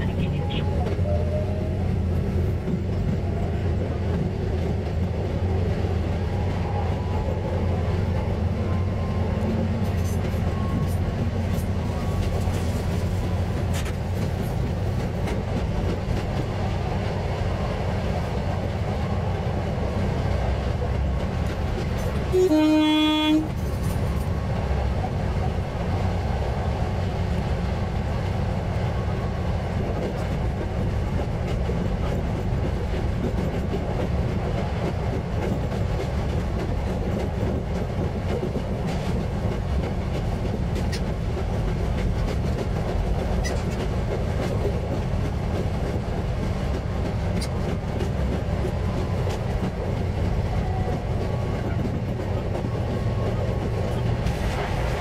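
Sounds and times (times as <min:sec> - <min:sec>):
railcar rumbling on rails: 0:00.0 - 0:55.0.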